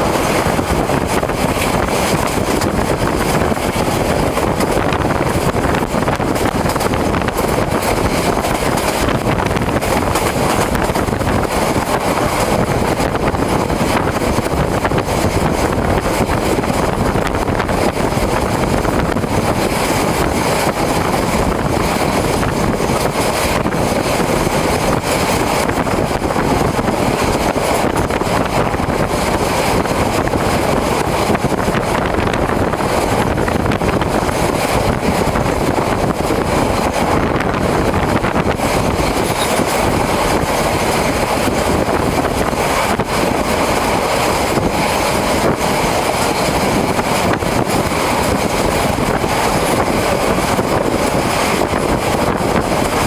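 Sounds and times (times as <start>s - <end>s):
train rumble: 0.0s - 53.0s
wind on microphone: 0.0s - 53.0s.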